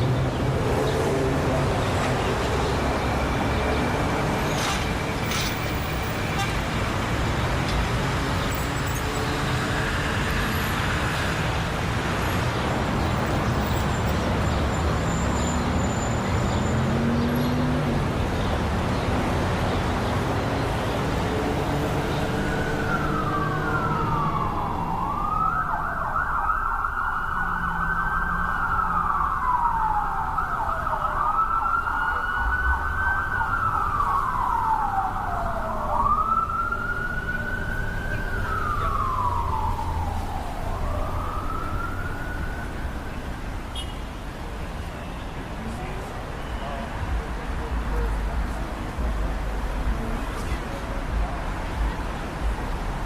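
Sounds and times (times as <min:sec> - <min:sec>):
road traffic engine hum: 0:00.0 - 0:53.0
emergency siren wailing: 0:00.4 - 0:43.8.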